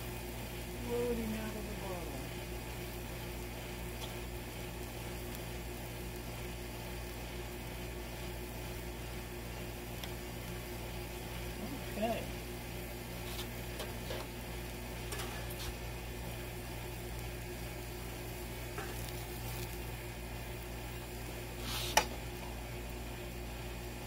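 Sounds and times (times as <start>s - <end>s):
burger patties sizzling on griddle: 0.0s - 24.0s.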